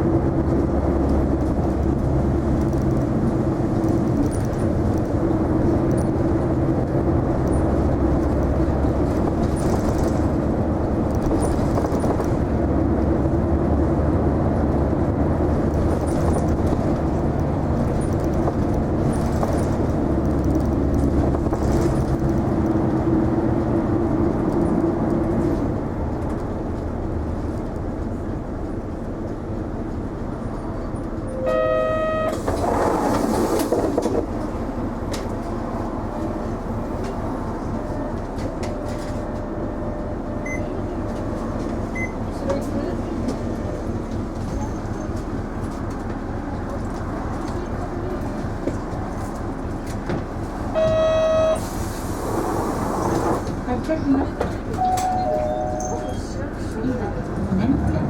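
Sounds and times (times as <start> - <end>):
bus diesel engine drone: 0.0 - 58.0
road and tyre noise: 0.0 - 58.0.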